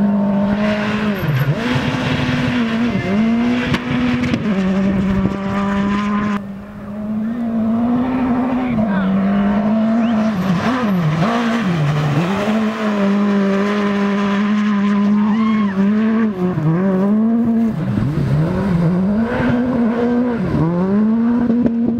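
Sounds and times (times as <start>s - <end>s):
rally car engine revving: 0.0s - 21.9s.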